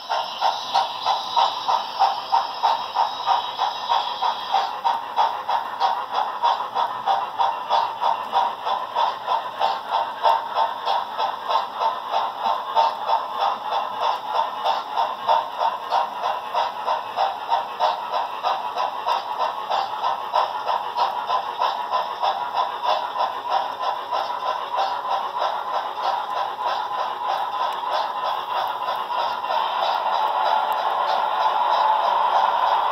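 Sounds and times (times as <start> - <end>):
model train rhythmic clatter: 0.0 - 32.9.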